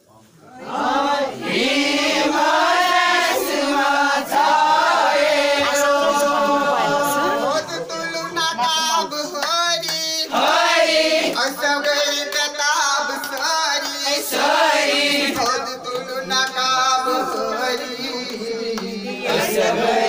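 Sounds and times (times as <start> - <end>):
group of voices singing: 0.5 - 20.0.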